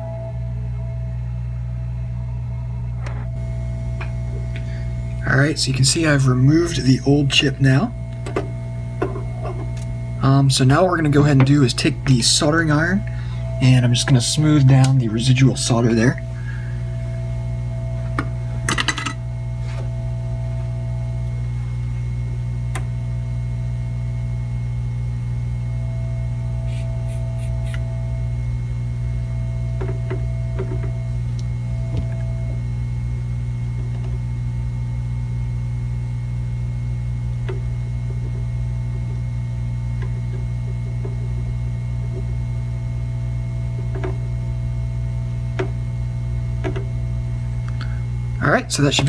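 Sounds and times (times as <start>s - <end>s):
faint high whine: 0.0s - 49.0s
low electrical hum: 0.0s - 49.0s.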